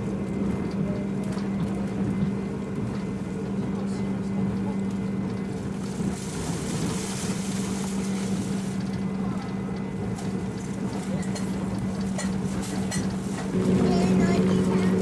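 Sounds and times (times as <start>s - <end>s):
train cabin hum and rumble: 0.0s - 15.0s.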